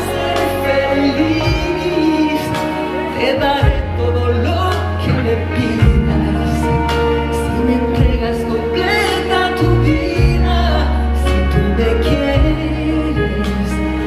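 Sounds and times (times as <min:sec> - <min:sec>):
bass line: 0:00.0 - 0:14.0
woman singing with vibrato: 0:00.0 - 0:14.0.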